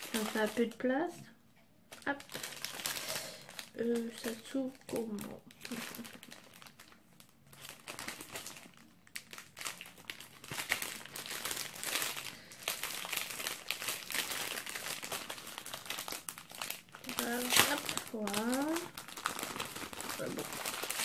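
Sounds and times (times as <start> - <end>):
plastic snack packet crackling: 0.0 - 0.9, 1.9 - 21.0.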